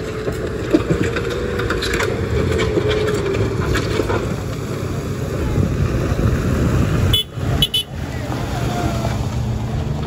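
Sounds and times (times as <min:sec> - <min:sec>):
diesel engine whining under load: 0:00.0 - 0:10.0.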